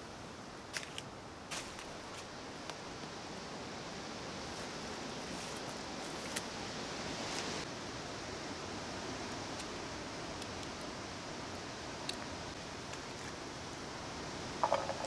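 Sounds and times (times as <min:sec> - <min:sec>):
outdoor rustling: 0:00.0 - 0:03.2, 0:04.4 - 0:07.8, 0:09.2 - 0:15.0.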